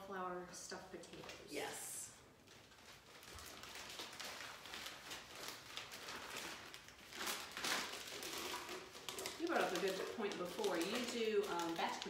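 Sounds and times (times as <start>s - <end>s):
plastic bags rustling: 1.1s - 12.0s.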